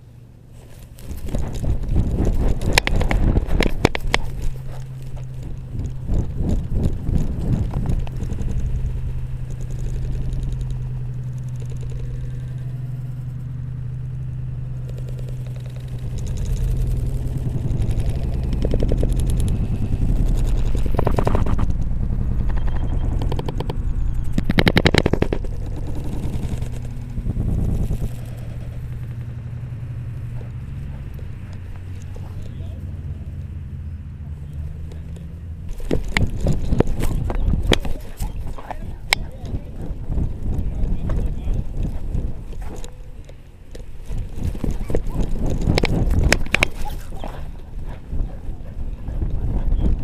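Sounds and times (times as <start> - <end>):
steady low hum: 0.0 - 50.0
camera rattling and knocking: 0.6 - 13.2, 14.0 - 32.7, 34.7 - 50.0.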